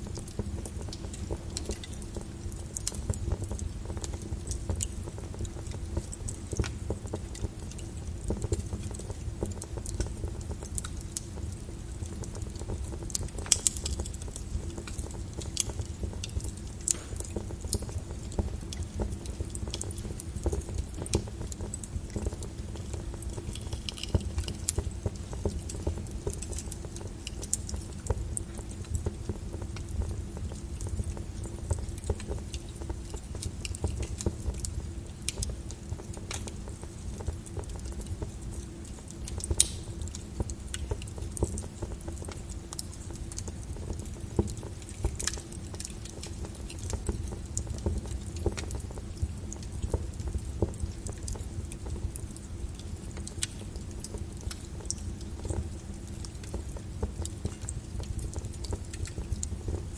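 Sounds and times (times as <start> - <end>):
rain: 0.0 - 59.9
wood fire crackling and popping: 0.0 - 59.9.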